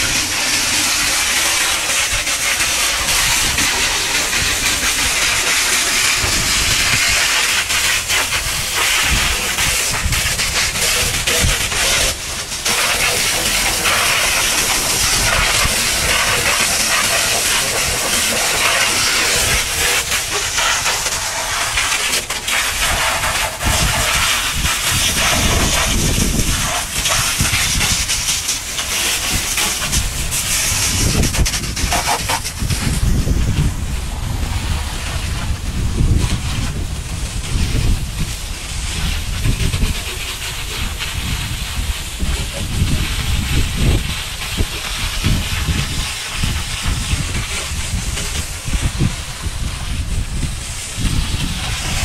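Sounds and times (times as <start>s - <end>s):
pressure washer jet hissing: 0.0s - 52.0s.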